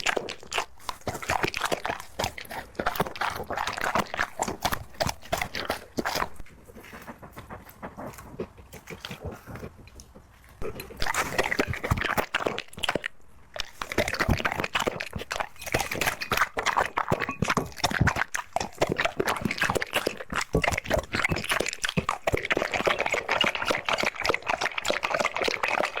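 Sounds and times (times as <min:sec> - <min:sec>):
puppy crunching dry kibble: 0:00.0 - 0:26.0.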